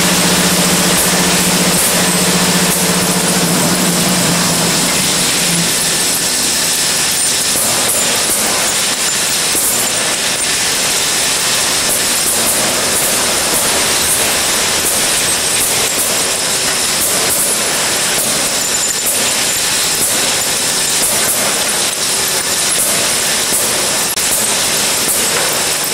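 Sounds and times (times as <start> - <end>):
machine hiss and rumble: 0.0 - 25.9.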